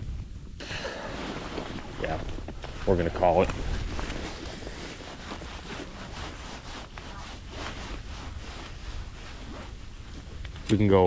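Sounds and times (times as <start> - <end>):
wind buffeting microphone: 0.0 - 11.0
rustling and handling noise: 0.1 - 11.0.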